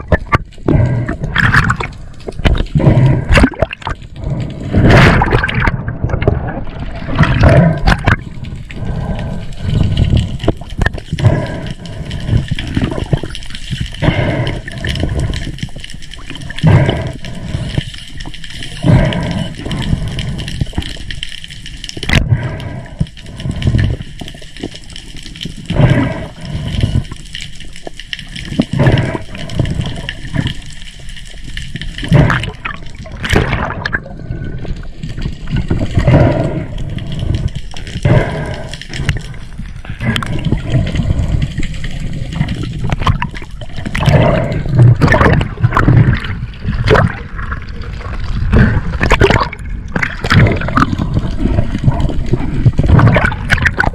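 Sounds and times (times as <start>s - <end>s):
water rushing and gurgling: 0.0s - 53.9s
water splashing: 0.0s - 53.9s.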